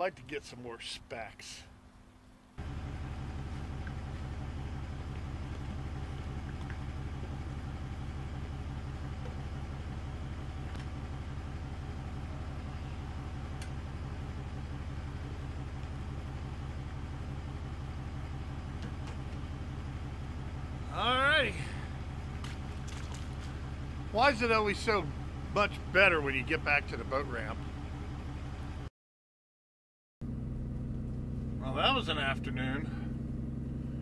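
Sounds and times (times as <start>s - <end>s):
engine idling: 2.5s - 28.9s, 30.2s - 34.0s.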